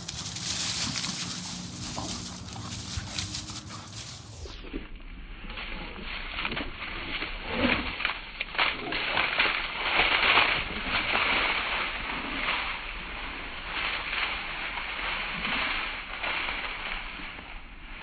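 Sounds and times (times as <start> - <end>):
dry leaves rustling and crunching: 0.0 - 17.9.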